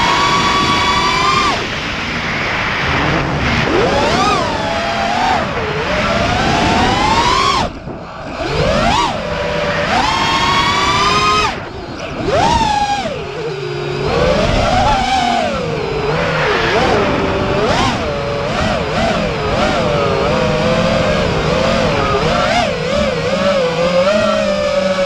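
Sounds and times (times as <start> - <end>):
rushing air: 0.0 - 22.3
drone motors whining: 0.0 - 25.0.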